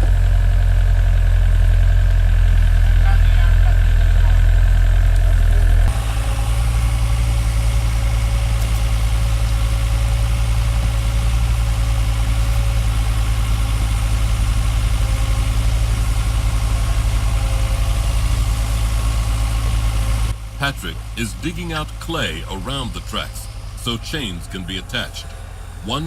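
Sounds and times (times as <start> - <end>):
diesel engine throbbing: 0.0 - 26.0.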